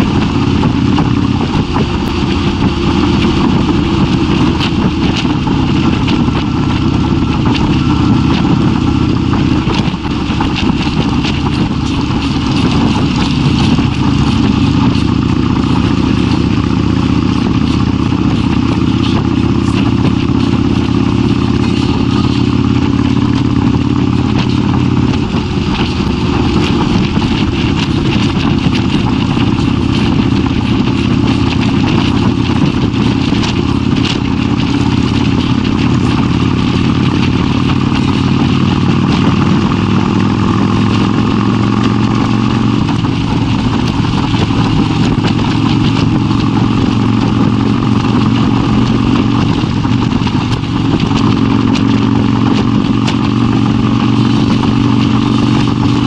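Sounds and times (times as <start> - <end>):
motorcycle engine running: 0.0 - 56.0
rush of wind noise: 0.0 - 56.0.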